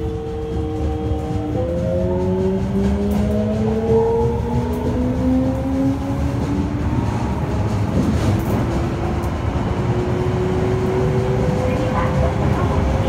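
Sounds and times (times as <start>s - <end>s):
train inverter whining: 0.0s - 13.0s
wheels rumbling on rails: 0.0s - 13.0s.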